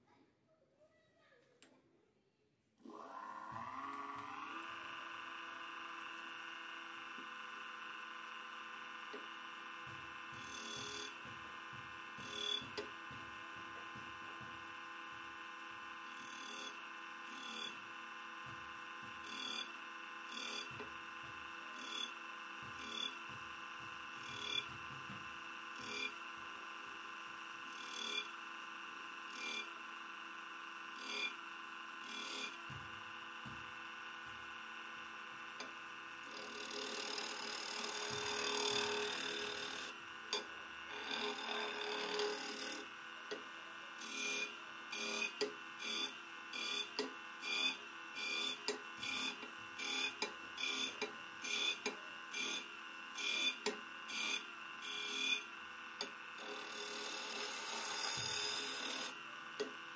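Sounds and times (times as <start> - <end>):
wood lathe motor hum: 2.8 - 59.9
chisel cutting wood: 3.7 - 59.9.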